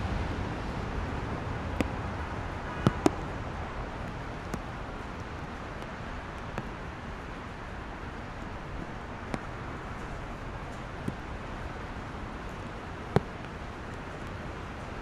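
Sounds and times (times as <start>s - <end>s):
traffic on wet roads: 0.0s - 15.0s.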